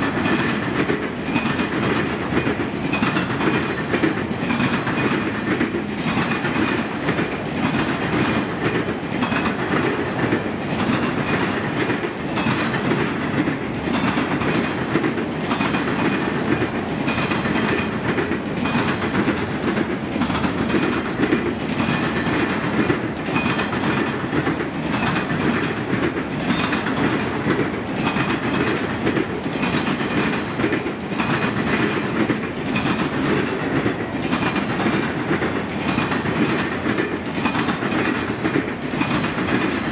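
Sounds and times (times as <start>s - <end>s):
freight train rolling past: 0.0s - 39.9s
wheels clicking over rail joints: 0.0s - 39.9s.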